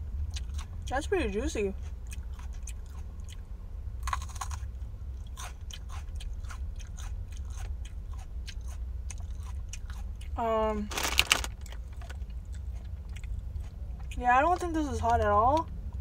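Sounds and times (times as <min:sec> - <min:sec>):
chewing crunchy pepper: 0:00.1 - 0:00.9, 0:01.7 - 0:15.7.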